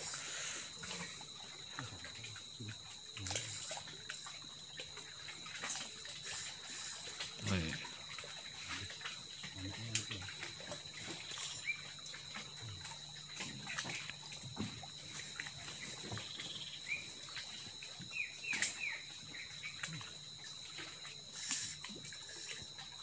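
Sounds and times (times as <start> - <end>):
light water sounds: 0.0 - 23.0.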